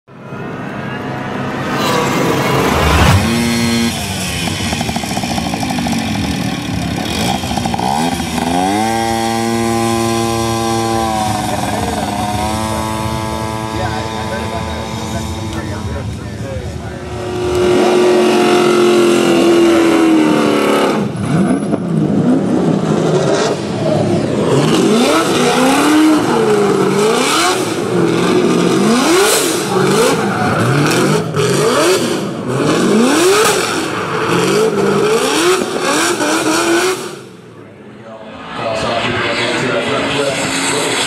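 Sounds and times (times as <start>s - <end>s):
tyre and exhaust noise: 0.1s - 41.0s
car engines revving hard: 1.0s - 37.6s, 38.6s - 41.0s.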